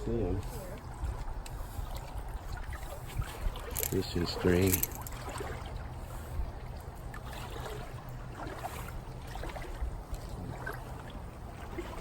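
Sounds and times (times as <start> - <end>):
pond water sloshing and trickling: 0.0 - 12.0.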